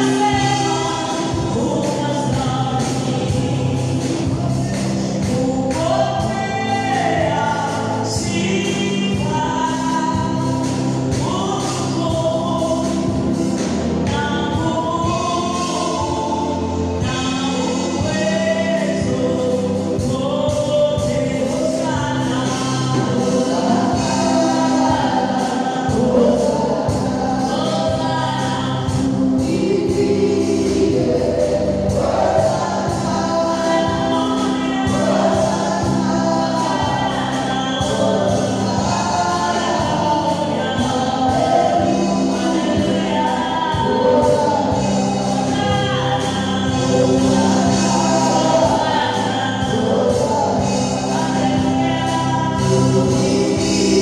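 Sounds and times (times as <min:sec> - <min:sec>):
choir singing gospel song: 0:00.0 - 0:54.0
instrumental backing with beat: 0:00.0 - 0:54.0.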